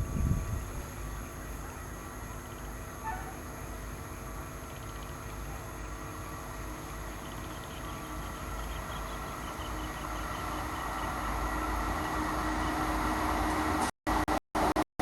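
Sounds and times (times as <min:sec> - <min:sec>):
train rumble approaching: 0:00.0 - 0:14.8.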